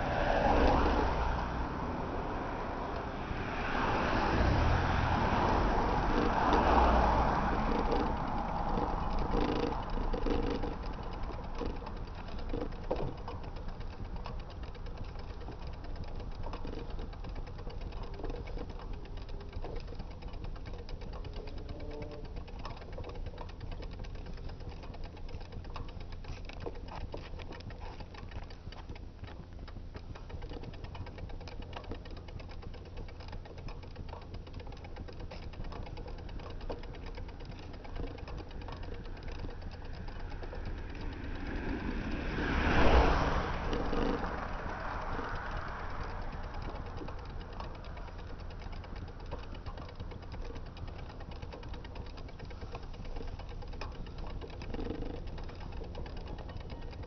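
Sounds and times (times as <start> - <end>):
bicycle rolling on road: 0.0 - 57.0
rapid clicking and rattling: 0.0 - 57.0.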